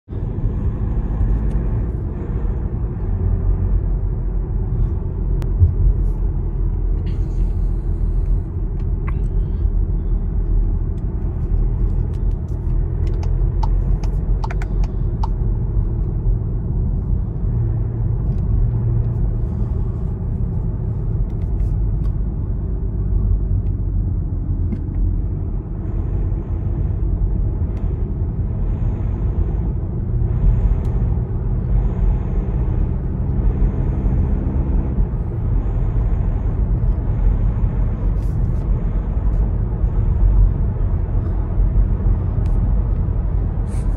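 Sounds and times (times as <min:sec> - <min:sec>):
car cabin engine and road noise: 0:00.0 - 0:43.9.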